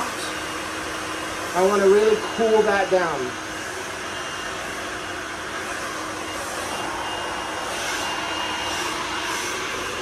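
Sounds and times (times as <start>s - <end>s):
blow dryer running: 0.0s - 10.0s.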